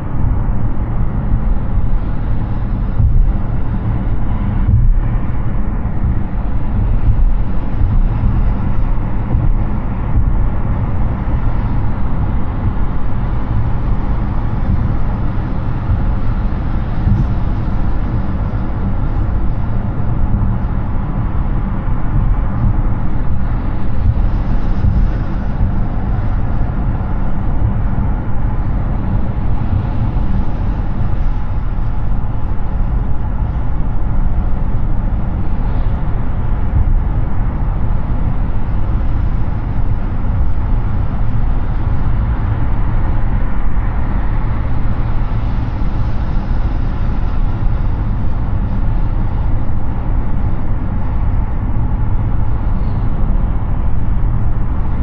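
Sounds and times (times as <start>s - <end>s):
rushing air: 0.0s - 55.0s.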